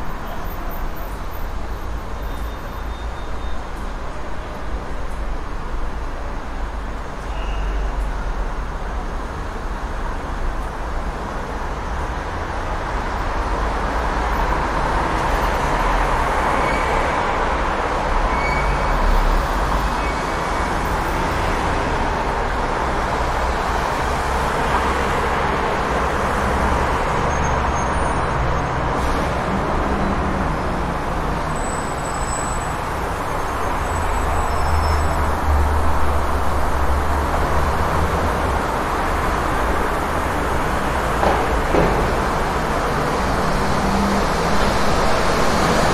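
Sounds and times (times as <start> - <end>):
passing vehicles: 0.0 - 45.9.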